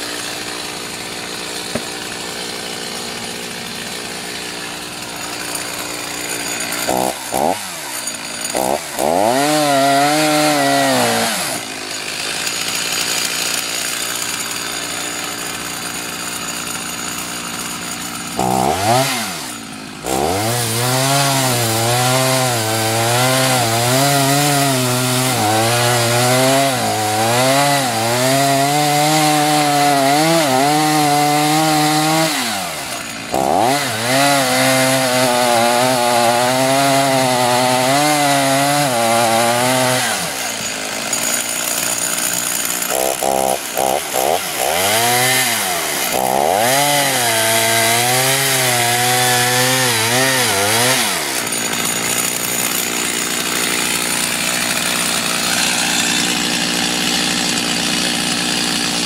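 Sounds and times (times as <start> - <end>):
chainsaw cutting wood: 0.0 - 59.0
chainsaw throttle blips: 0.0 - 59.0.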